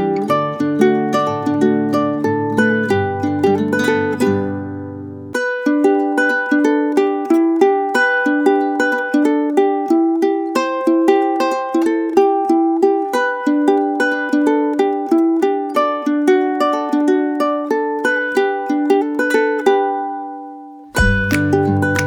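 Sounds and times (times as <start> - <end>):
plucked-string tune: 0.0 - 22.0.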